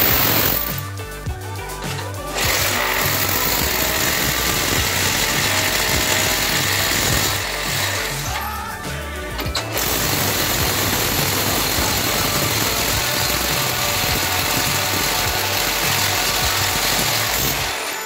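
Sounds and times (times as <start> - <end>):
electric drill boring: 0.0 - 0.8, 2.3 - 8.4, 9.4 - 18.0.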